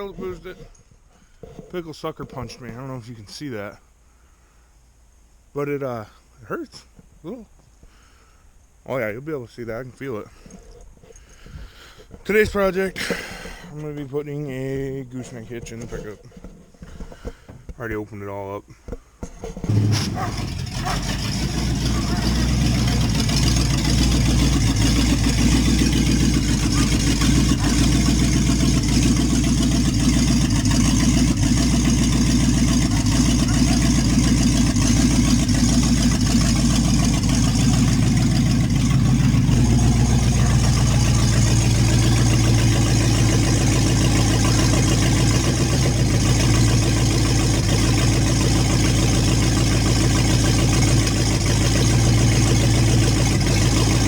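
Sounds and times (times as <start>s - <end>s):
engine idling: 0.0s - 3.3s, 9.2s - 54.0s.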